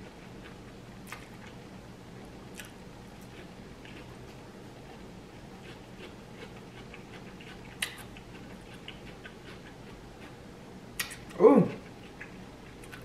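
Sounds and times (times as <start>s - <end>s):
close chewing with mouth clicks: 0.1s - 1.6s, 2.5s - 10.4s, 11.0s - 13.0s.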